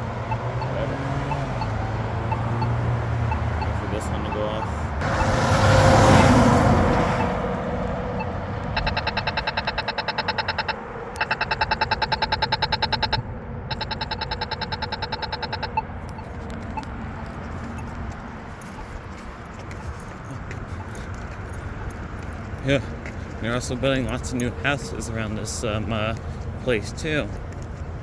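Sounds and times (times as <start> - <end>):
pedestrian signal rapid ticking: 0.0 - 28.0
vehicle passing: 0.0 - 28.0.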